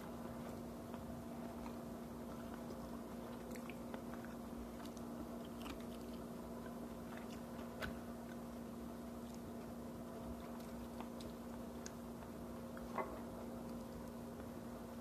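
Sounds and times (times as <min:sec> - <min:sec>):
person chewing food: 0:00.0 - 0:14.8
steady low hum: 0:00.0 - 0:15.0.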